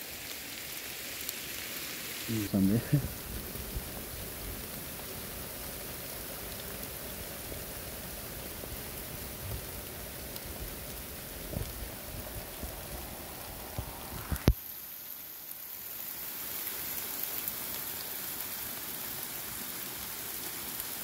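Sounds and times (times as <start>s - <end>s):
rain hissing on grass: 0.0s - 21.0s.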